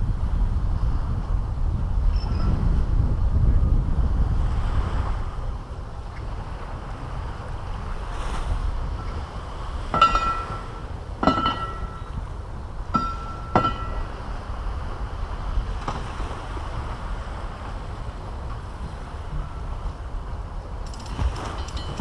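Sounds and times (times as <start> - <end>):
surf washing on beach: 0.0 - 22.0
wind on microphone: 0.0 - 22.0.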